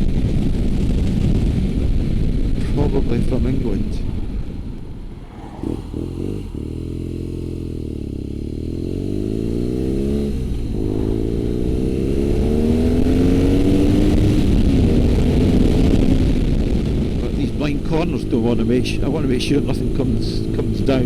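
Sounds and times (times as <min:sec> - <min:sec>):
motorcycle engine: 0:03.9 - 0:21.0.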